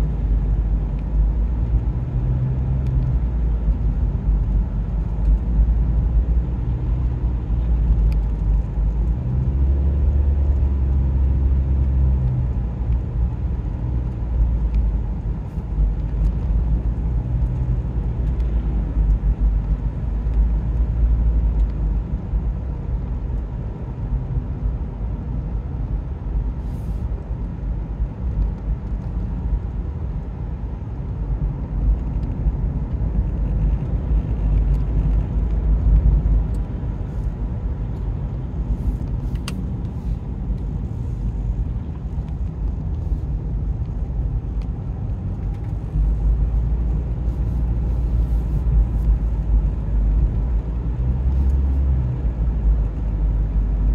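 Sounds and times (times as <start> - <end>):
road rumble and engine drone: 0.0 - 53.9.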